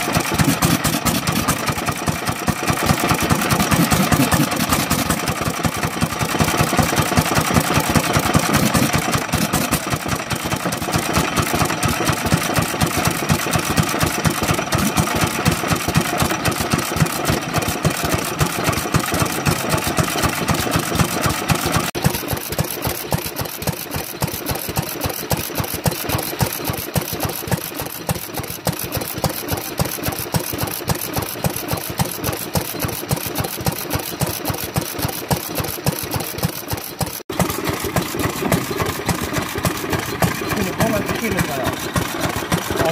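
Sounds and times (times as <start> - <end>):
stationary oil engine running: 0.0 - 42.9.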